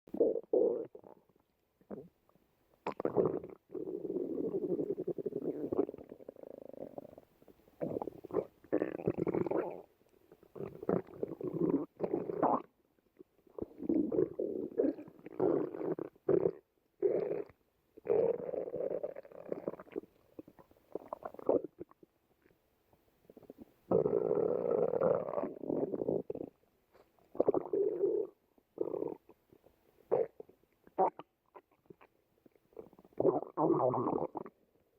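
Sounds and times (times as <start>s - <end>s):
stomach growling: 0.1s - 2.2s, 2.8s - 7.2s, 7.8s - 22.6s, 23.3s - 29.4s, 30.1s - 34.7s.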